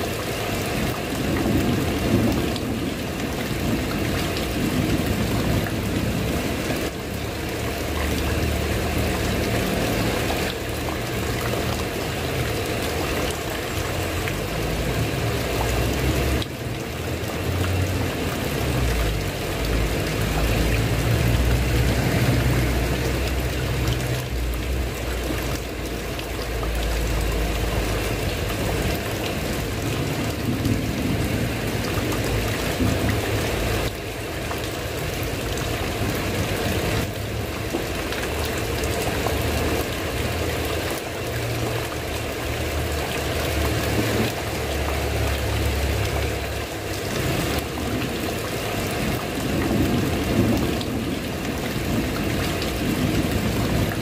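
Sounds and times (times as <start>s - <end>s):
rain on a tiled roof: 0.0s - 54.0s.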